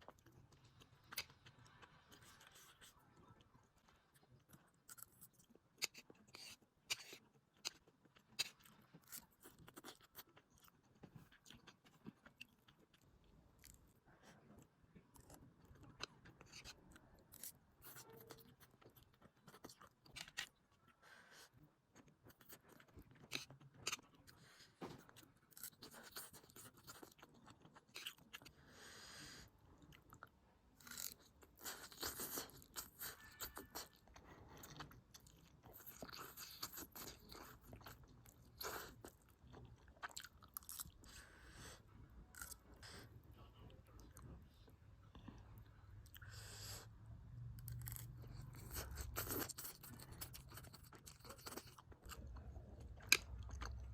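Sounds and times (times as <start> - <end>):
person chewing food: 0.0 - 28.7, 29.7 - 53.9.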